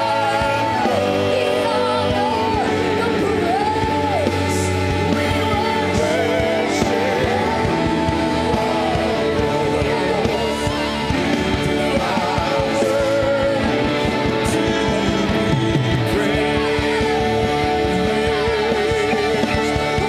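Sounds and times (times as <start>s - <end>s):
band with guitar: 0.0s - 20.0s
person singing with vibrato: 0.0s - 20.0s.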